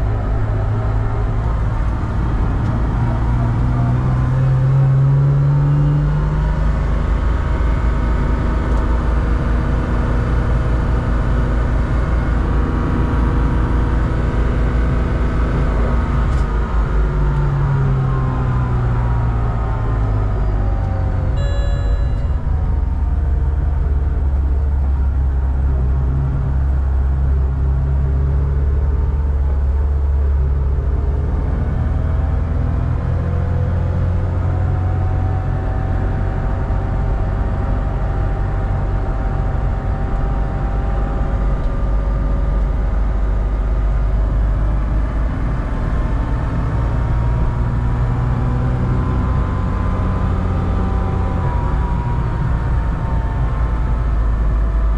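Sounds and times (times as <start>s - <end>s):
race car engine rumble inside cabin: 0.0s - 54.9s.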